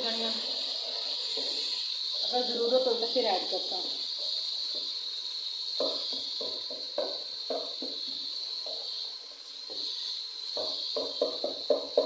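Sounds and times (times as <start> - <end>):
pot bubbling hiss: 0.0 - 12.0.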